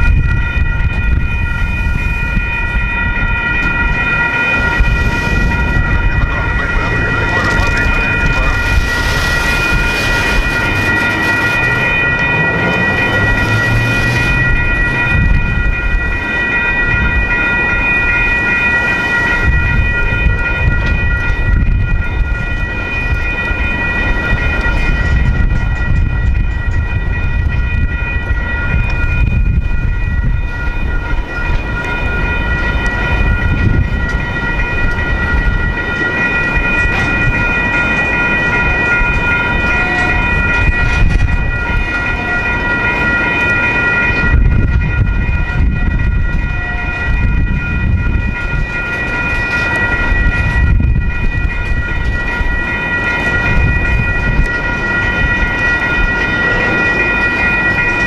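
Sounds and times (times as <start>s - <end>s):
crossing bell ringing: 0.0s - 58.0s
train wheels rumbling and clacking: 0.0s - 58.0s.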